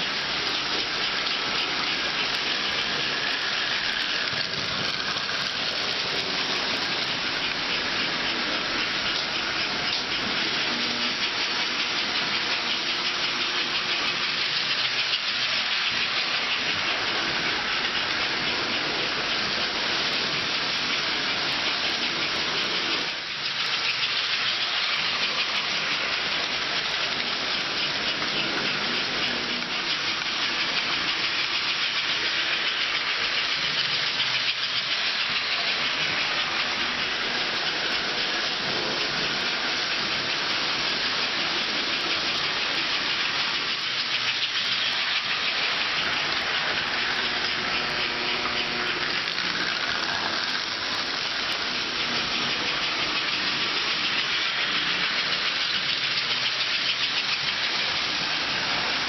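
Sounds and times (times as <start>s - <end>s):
toy trains whirring on track: 0.0s - 59.0s.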